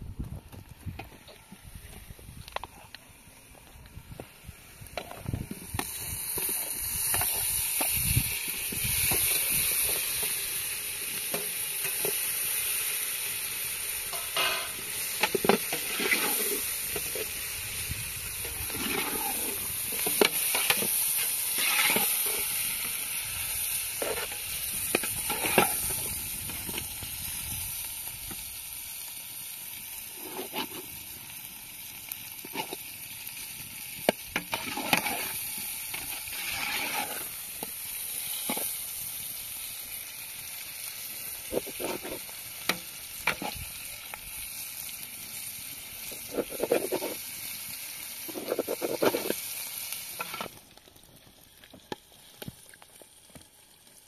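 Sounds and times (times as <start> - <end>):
high sizzling hiss: 0.8 - 54.0.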